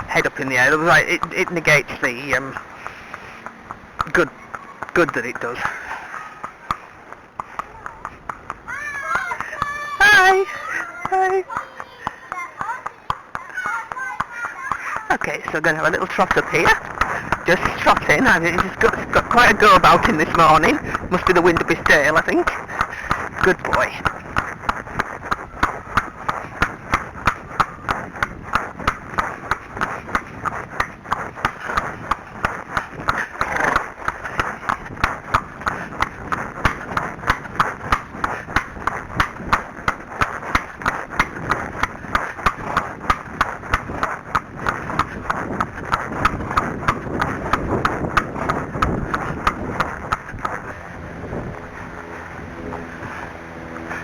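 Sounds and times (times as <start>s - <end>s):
wind rumbling on microphone: 0.0s - 11.6s, 12.8s - 54.0s
horse hooves trotting: 0.0s - 54.0s.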